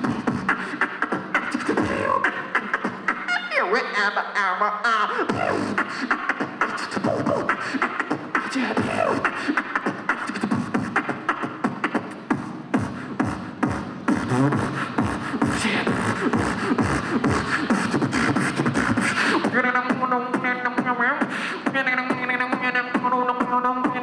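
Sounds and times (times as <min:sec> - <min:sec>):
beatboxing through a microphone: 0:00.0 - 0:24.0
pitch-bending vocal sounds: 0:00.0 - 0:24.0.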